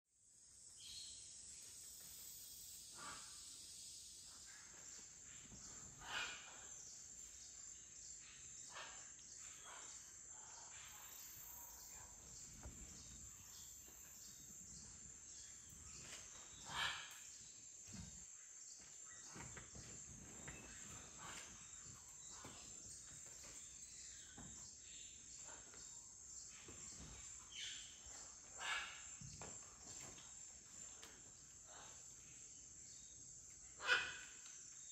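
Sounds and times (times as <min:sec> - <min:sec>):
high-pitched insect chorus: 0:00.2 - 0:34.9.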